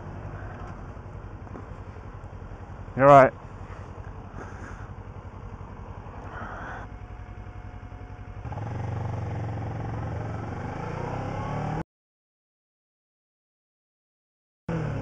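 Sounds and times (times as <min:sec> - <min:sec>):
motorcycle engine: 0:00.0 - 0:11.8, 0:14.7 - 0:15.0.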